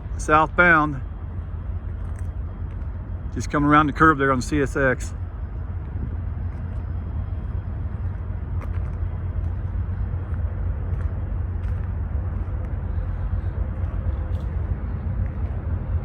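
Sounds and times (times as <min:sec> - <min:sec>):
diesel locomotives rumbling: 0:00.0 - 0:16.0.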